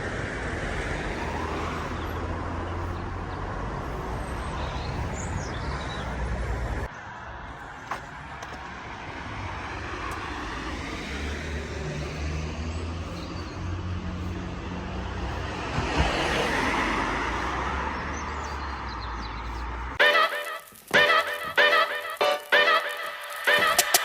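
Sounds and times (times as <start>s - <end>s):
road hiss: 0.0s - 6.9s, 7.6s - 24.0s
engine rumble: 0.0s - 20.0s.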